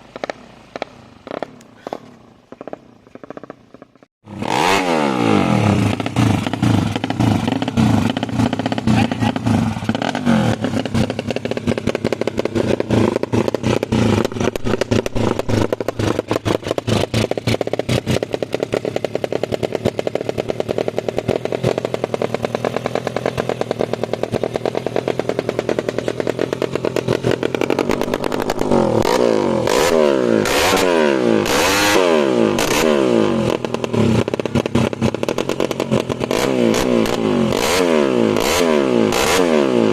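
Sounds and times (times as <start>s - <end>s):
motorcycle engine running and revving: 0.0s - 39.9s.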